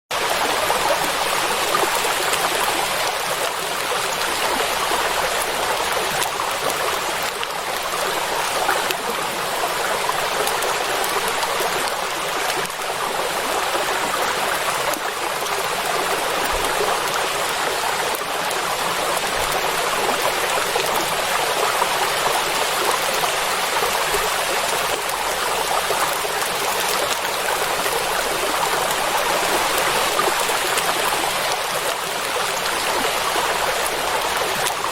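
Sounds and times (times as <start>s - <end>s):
heavy rain falling on water: 0.1s - 34.9s.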